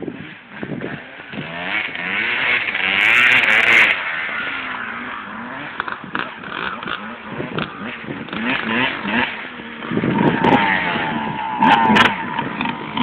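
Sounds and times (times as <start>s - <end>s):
dirt bike engine revving past: 0.1s - 13.0s.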